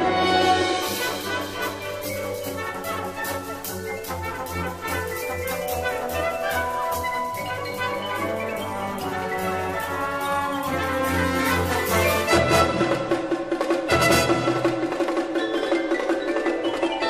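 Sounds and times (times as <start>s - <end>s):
brass and woodwind chords: 0.0s - 13.2s, 13.9s - 14.8s
percussion strokes: 0.0s - 17.0s.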